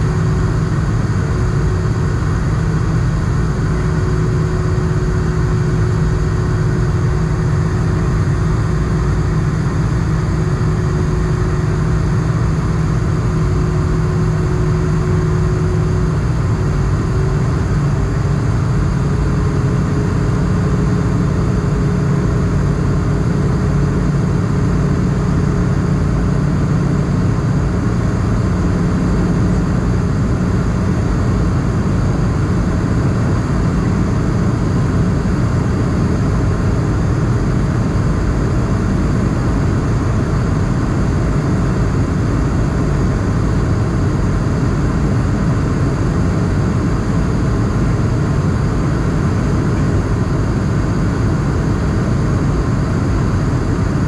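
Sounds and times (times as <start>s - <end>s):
jet engine hum: 0.0s - 54.0s
rushing air in cabin: 0.0s - 54.0s.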